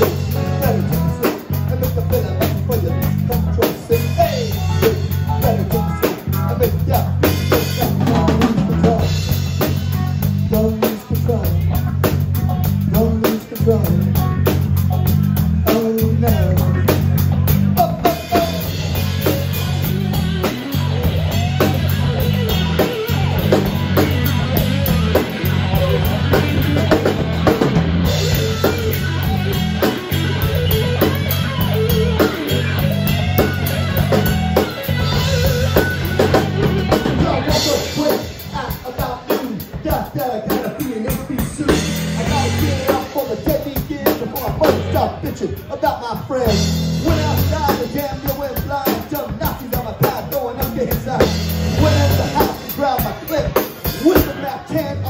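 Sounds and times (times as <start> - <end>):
man singing: 0.0 - 55.0
rock band playing: 0.0 - 55.0.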